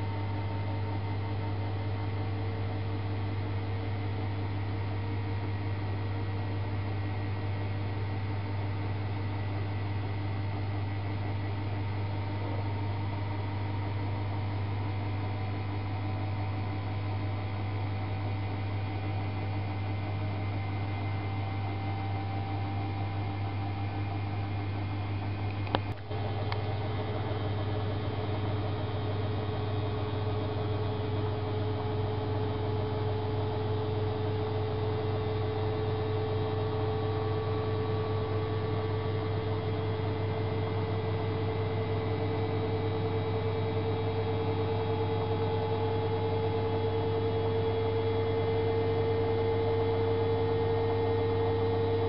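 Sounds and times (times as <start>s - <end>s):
washing machine electrical hum: 0.0s - 52.0s.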